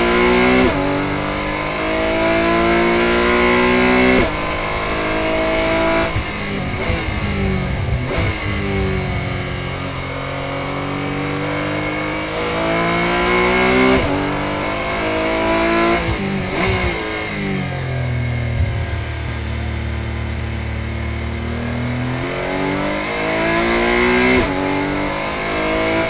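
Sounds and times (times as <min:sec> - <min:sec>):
racing engine revving: 0:00.0 - 0:26.0.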